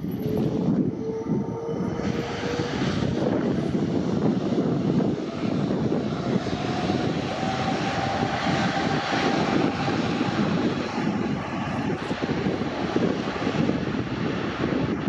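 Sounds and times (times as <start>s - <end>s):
faint engine whine: 0.0s - 15.0s
jet engine rumble: 0.0s - 15.0s.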